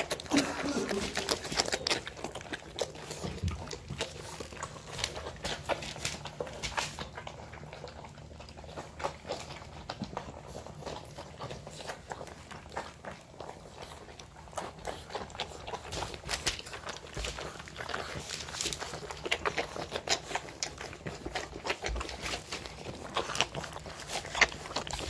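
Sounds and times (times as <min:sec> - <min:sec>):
puppies crunching dry kibble: 0:00.0 - 0:25.0.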